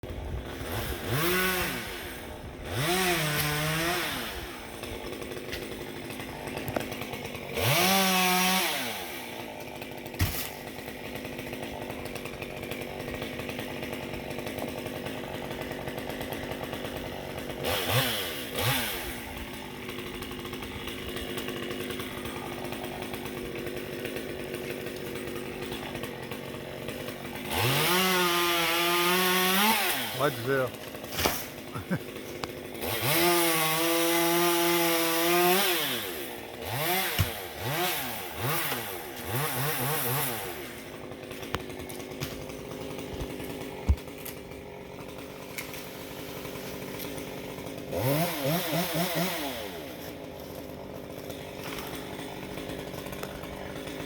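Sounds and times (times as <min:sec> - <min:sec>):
chainsaw engine idling and revving: 0:00.0 - 0:54.0.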